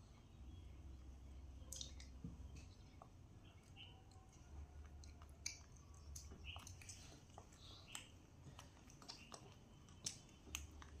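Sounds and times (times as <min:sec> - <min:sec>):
mouth sounds of eating: 0:01.7 - 0:11.0.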